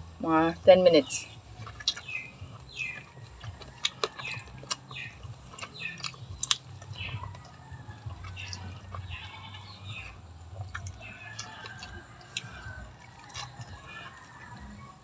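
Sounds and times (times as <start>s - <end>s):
small birds chirping: 0.0s - 15.0s
eating clicks and smacks: 1.2s - 15.0s.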